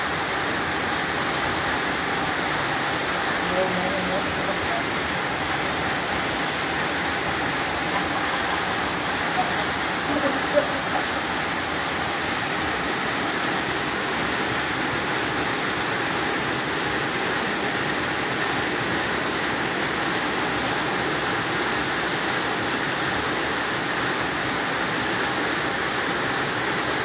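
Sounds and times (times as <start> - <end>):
heavy rain on a metal roof: 0.0 - 27.0
rain splashing on ground: 0.0 - 27.0.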